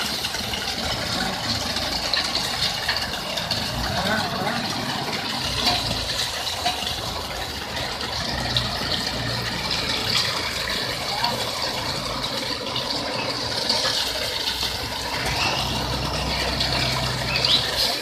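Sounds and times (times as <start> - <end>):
mixer engine running: 0.0 - 18.0
rushing rattling concrete mixer: 0.0 - 18.0.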